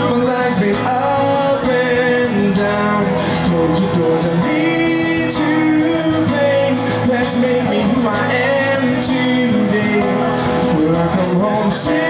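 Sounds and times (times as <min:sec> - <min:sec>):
man singing: 0:00.0 - 0:12.0
strummed acoustic guitar: 0:00.0 - 0:12.0.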